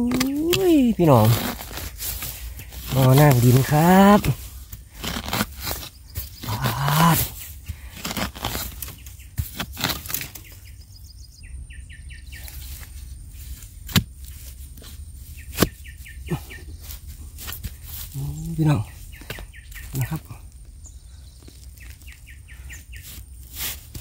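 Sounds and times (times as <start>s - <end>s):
rustling and scraping soil: 0.0s - 11.5s, 12.1s - 24.0s
small bird chirping: 0.0s - 24.0s.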